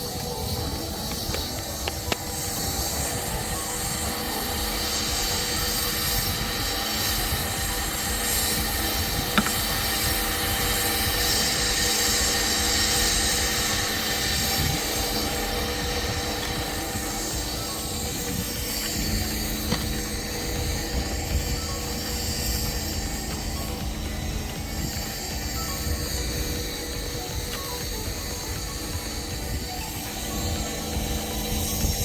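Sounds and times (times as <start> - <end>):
mechanical running noise with hiss: 0.0 - 32.0.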